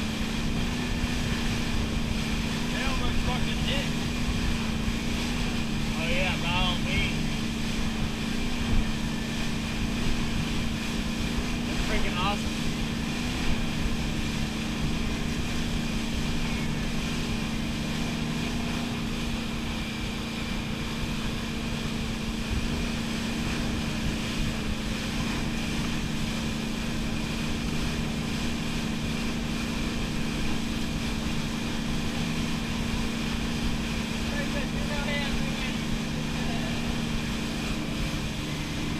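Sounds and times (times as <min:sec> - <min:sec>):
boat engine drone: 0:00.0 - 0:38.9
churning wake rushing: 0:00.0 - 0:38.9.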